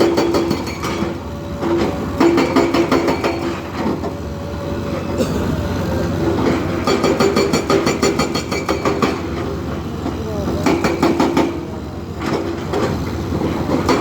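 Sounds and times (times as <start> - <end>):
rapid metallic clatter of knocks: 0.0 - 4.2, 6.3 - 14.0
diesel engine running: 0.0 - 14.0.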